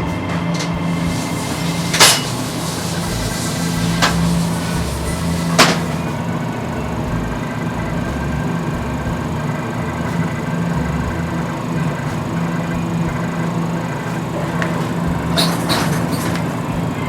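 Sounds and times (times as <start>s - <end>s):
balancing machine hum and rumble: 0.0s - 17.0s.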